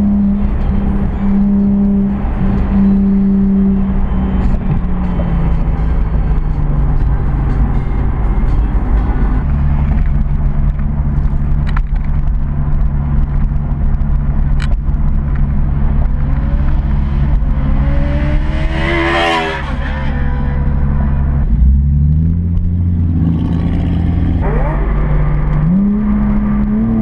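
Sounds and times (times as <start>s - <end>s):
car exhaust drone from inside cabin: 0.0s - 27.0s.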